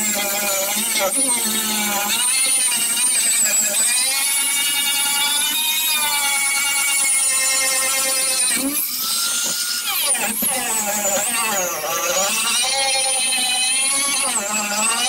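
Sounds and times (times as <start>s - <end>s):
electric grinder whining: 0.0s - 15.0s.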